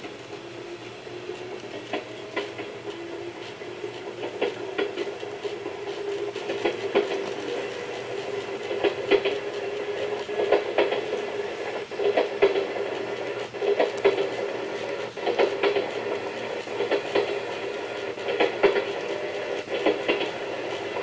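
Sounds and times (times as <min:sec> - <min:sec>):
wheels clacking over rail joints: 0:00.0 - 0:21.0.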